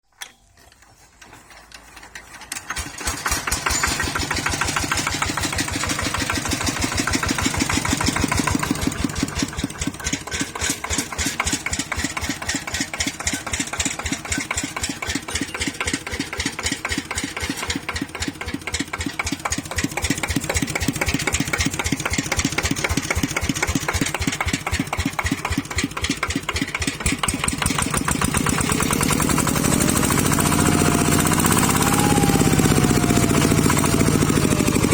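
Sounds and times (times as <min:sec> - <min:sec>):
diesel engine running: 0:03.0 - 0:34.9.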